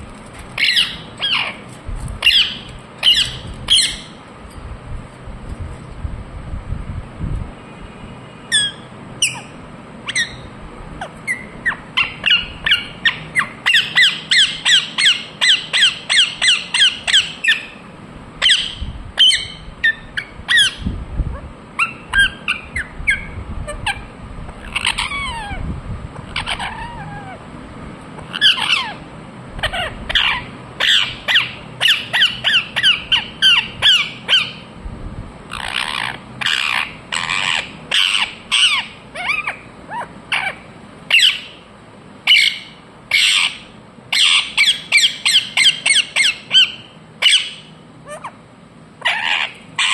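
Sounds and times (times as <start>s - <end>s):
parakeet squawking: 0.6s - 4.2s, 8.5s - 17.8s, 18.4s - 20.8s, 21.7s - 25.6s, 26.2s - 27.4s, 28.2s - 34.7s, 35.5s - 48.4s, 49.0s - 49.9s.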